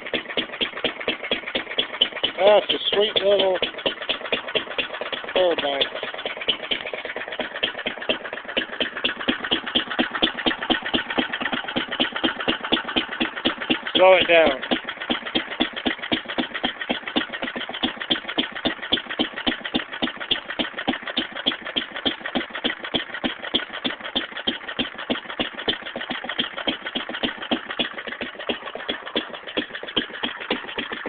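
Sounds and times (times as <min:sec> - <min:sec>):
hit-and-miss engine running: 0:00.0 - 0:31.0.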